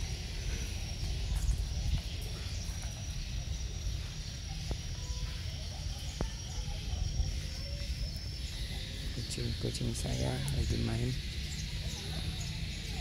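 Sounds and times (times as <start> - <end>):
birds twittering: 0.0 - 13.0.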